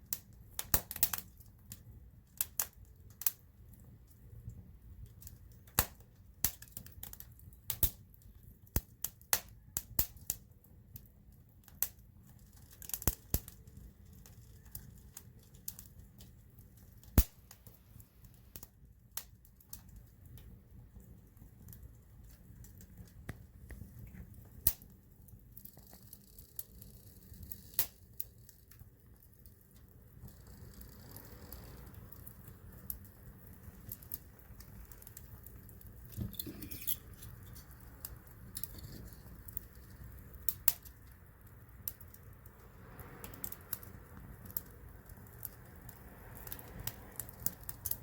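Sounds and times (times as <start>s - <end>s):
campfire wood crackling: 0.0s - 48.0s.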